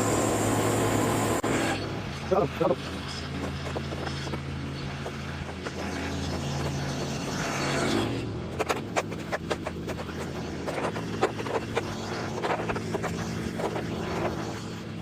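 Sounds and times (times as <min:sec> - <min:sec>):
electric snow shovel motor hum: 0:00.0 - 0:15.0
shovel scraping snow and pavement: 0:02.3 - 0:15.0.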